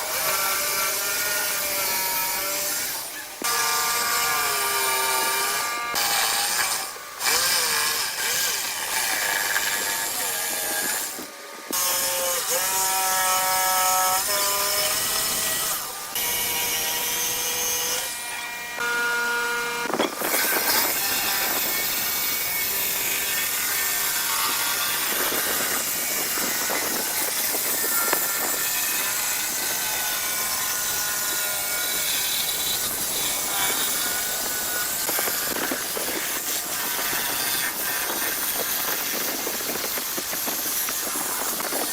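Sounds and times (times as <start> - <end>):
power tools cutting wood: 0.0 - 41.9
whining motor: 0.0 - 41.9.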